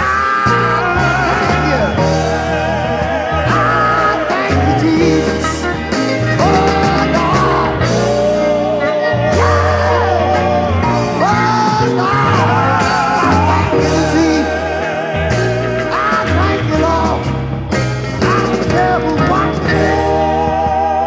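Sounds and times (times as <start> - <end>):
person singing with vibrato: 0.0 - 17.3, 18.2 - 21.0
band with steady bass line: 0.0 - 21.0.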